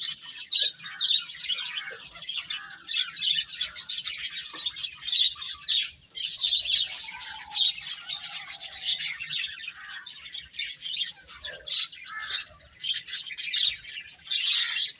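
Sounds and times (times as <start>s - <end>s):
baby chicks peeping: 0.0s - 14.9s.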